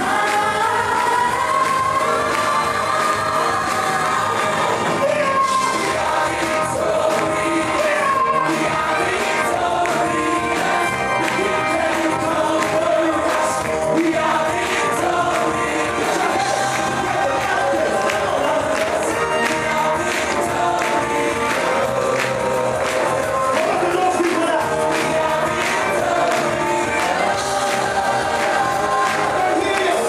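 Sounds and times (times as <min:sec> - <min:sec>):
live band playing: 0:00.0 - 0:30.0
vocal group singing gospel: 0:00.0 - 0:30.0.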